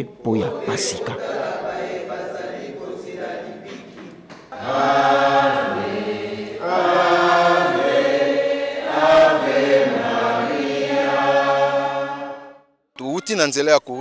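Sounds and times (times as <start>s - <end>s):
congregation singing a hymn: 0.0s - 12.6s.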